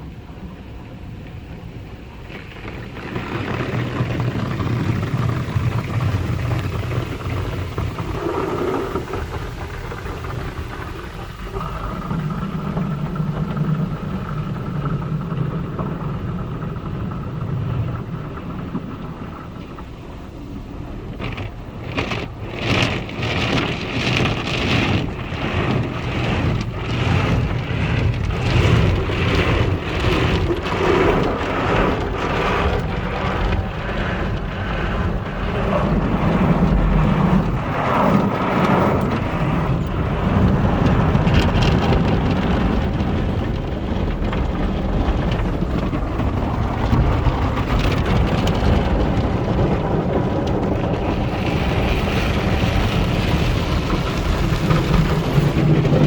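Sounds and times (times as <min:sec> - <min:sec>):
water spray and rumble: 0:00.0 - 0:56.0.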